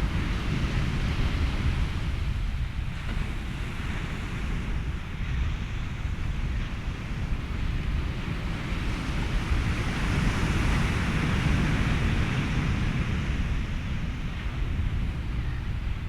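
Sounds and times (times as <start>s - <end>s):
ocean surf: 0.0s - 16.0s
wind: 0.0s - 16.0s.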